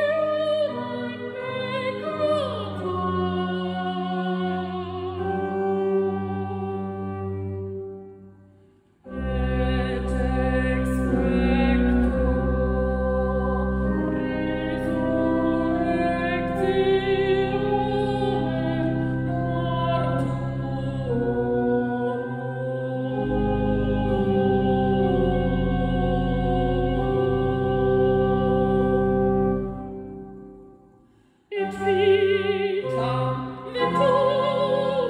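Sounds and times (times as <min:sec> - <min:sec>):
soprano singing with vibrato: 0:00.0 - 0:07.4, 0:09.1 - 0:29.6, 0:31.5 - 0:35.0
church organ chords: 0:00.0 - 0:31.0, 0:31.6 - 0:35.0.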